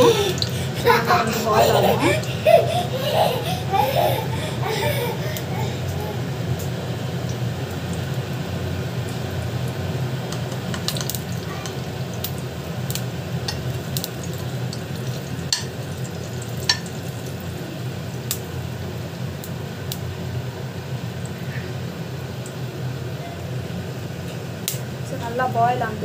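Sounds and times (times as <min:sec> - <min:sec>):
light sizzling: 0:00.0 - 0:26.0
steady low hum: 0:00.0 - 0:26.0.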